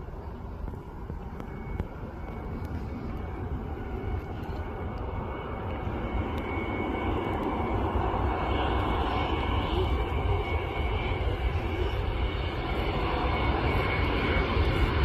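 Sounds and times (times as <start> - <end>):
faint high whine: 0.0 - 15.0
jet engine rumble: 0.0 - 15.0.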